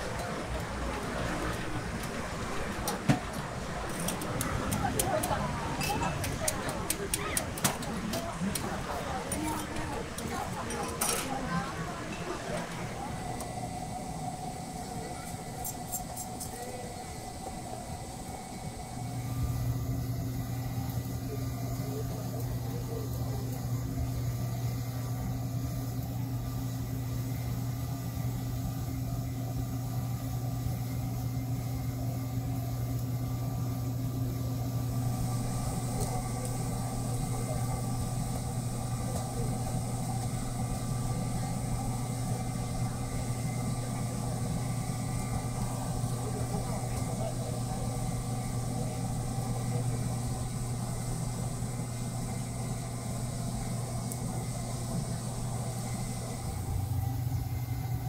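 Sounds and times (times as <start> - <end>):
machine humming: 0.0 - 58.0.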